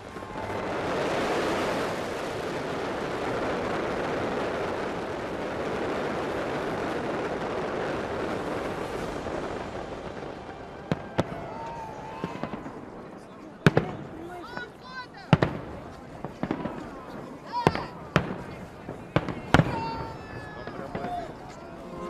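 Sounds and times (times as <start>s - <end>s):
fireworks display roar: 0.0s - 22.0s.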